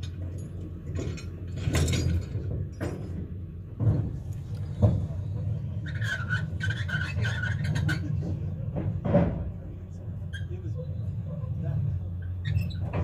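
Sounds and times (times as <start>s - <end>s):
metal clanks and knocks: 0.0s - 9.9s, 12.3s - 13.0s.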